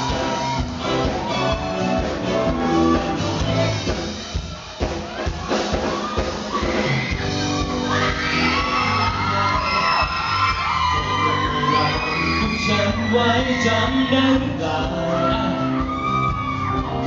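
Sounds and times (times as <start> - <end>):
audience shouting and whooping: 0.0 - 17.0
live pop music: 0.0 - 17.0.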